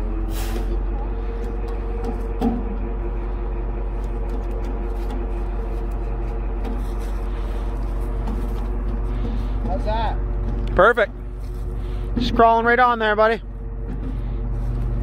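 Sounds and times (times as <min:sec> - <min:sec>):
tow truck engine running: 0:00.0 - 0:15.0.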